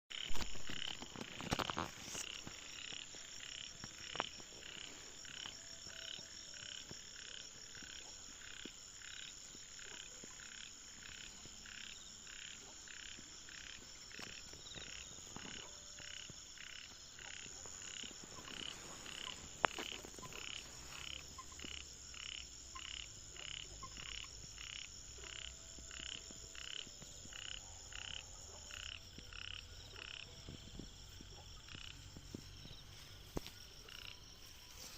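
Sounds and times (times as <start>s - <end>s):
frogs calling: 0.1s - 34.4s.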